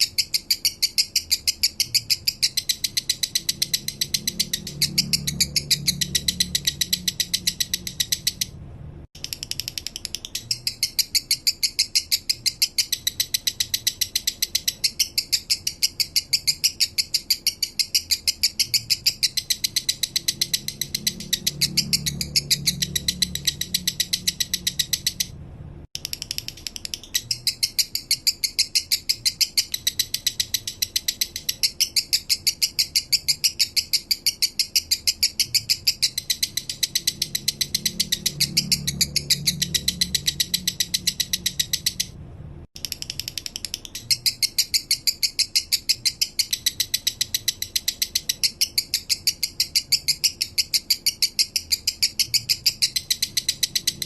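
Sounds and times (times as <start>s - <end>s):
lovebird chirping: 0.0s - 25.4s, 26.0s - 42.2s, 42.8s - 54.0s.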